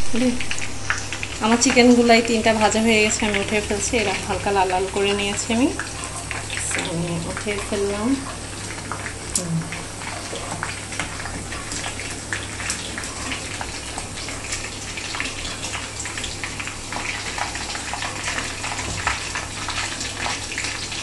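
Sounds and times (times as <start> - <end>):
chicken frying in oil: 0.0 - 21.0
low steady hum: 0.0 - 21.0.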